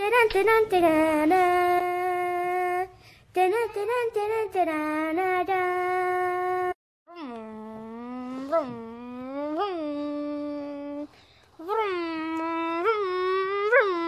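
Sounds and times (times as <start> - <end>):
girl singing long notes: 0.0 - 14.0.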